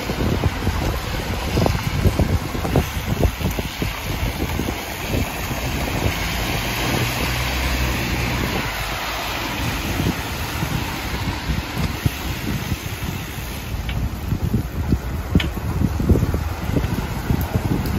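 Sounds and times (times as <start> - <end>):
bicycle tyres rolling on wet paving: 0.0 - 17.9
wind rushing over microphone: 0.0 - 17.9.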